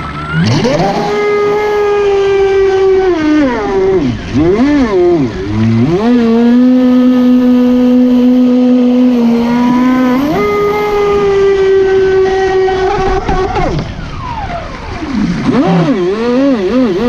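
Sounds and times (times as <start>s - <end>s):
electric motor whining: 0.0s - 17.0s
rushing water and spray: 0.1s - 17.0s.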